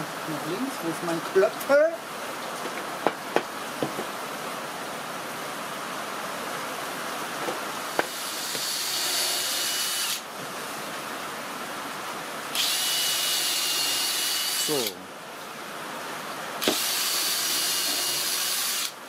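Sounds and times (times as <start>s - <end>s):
high hiss with faint whine: 0.0s - 19.0s
steady hiss: 0.0s - 19.0s.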